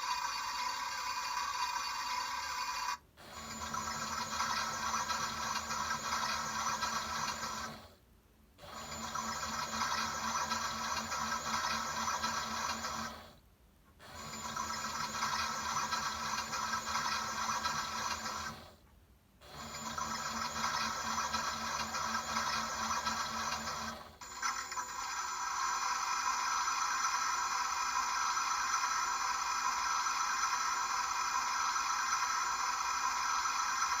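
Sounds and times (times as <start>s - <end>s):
toy washing machine running: 0.0s - 7.9s, 8.6s - 13.4s, 14.0s - 18.8s, 19.4s - 34.0s.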